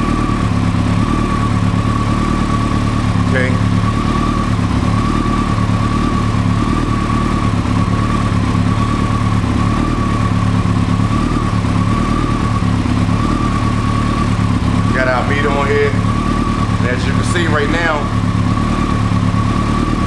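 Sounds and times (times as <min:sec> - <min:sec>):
motorcycle engine idling: 0:00.0 - 0:20.0
steady high whine: 0:00.0 - 0:20.0.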